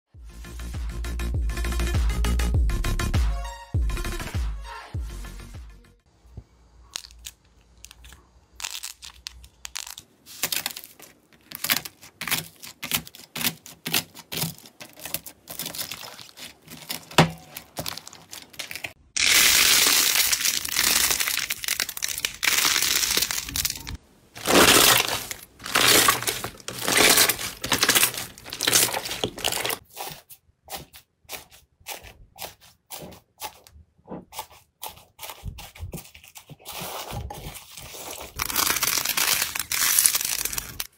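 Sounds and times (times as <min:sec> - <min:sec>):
slime crackling and squishing: 0:06.9 - 0:33.6, 0:34.4 - 0:40.9.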